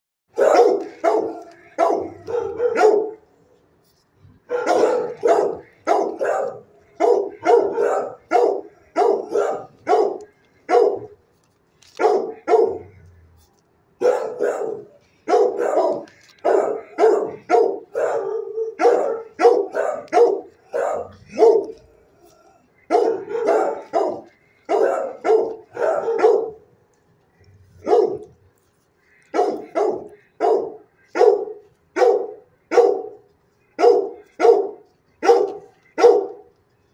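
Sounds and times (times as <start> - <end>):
dog barking: 0.3 - 3.4, 4.4 - 11.2, 11.9 - 13.1, 14.0 - 26.7, 27.8 - 28.4, 29.2 - 36.5.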